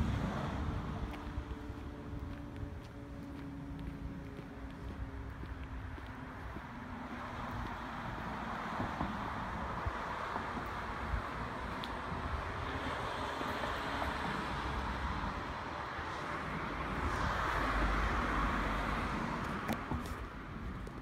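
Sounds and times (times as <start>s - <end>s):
car passing: 0.0s - 21.0s
street traffic: 0.0s - 21.0s.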